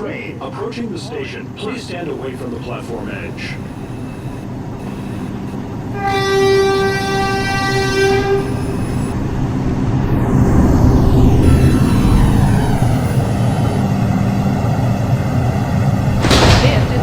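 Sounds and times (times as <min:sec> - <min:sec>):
train rumbling in: 0:00.0 - 0:17.0
electric motor whine: 0:01.6 - 0:16.2
subway train horn: 0:02.2 - 0:16.1.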